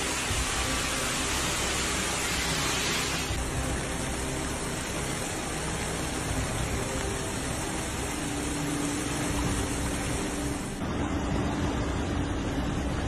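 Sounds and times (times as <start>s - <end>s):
rain: 0.0s - 10.8s.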